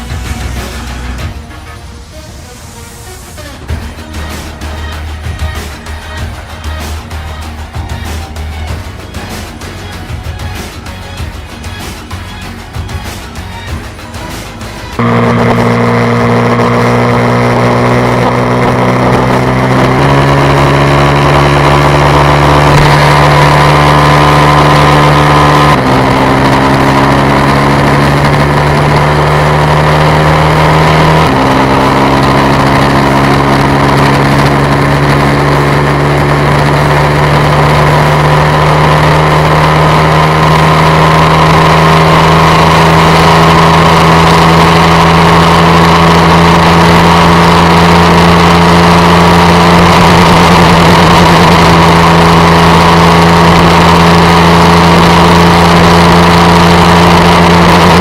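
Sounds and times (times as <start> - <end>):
motorcycle engine revving high: 3.0 - 58.0.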